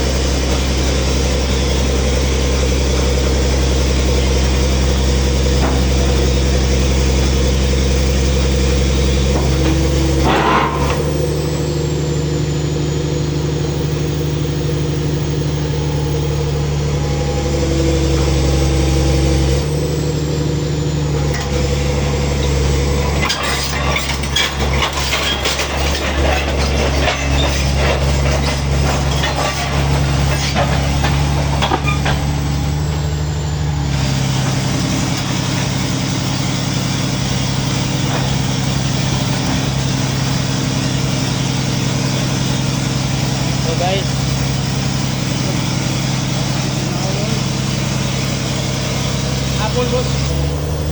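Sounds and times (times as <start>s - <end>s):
metallic clanking and rattling: 0.0s - 13.9s, 17.7s - 50.5s
diesel engine running: 0.0s - 50.9s.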